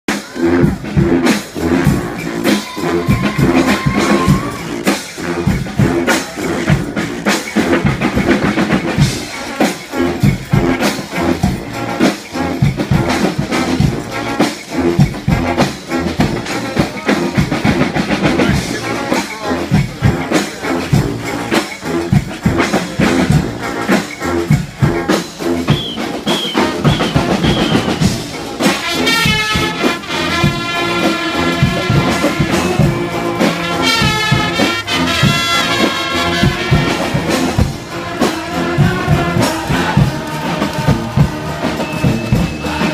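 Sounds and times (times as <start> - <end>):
brass and percussion band playing: 0.0 - 42.9
horns on high held notes: 0.1 - 8.0, 9.0 - 42.9
busy drumming: 0.1 - 42.9.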